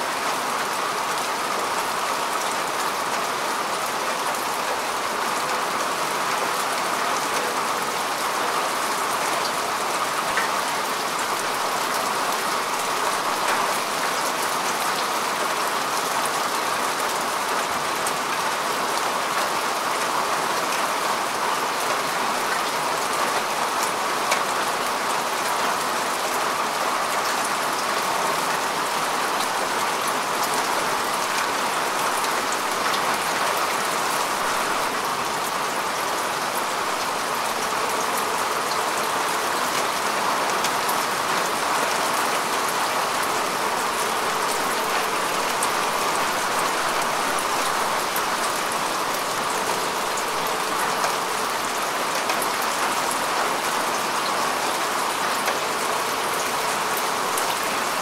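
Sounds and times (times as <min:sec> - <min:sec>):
rain falling on grass: 0:00.0 - 0:58.0.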